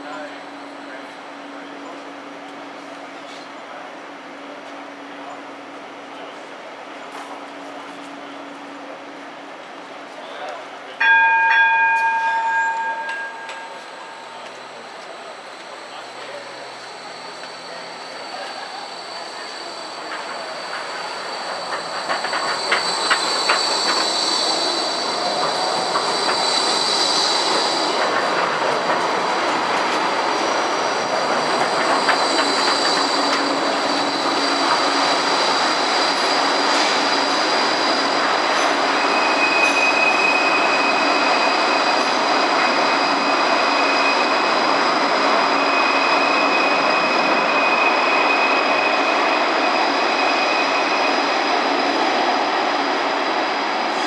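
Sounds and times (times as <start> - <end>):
tram wheel squeal: 0.0 - 2.2, 10.9 - 54.0.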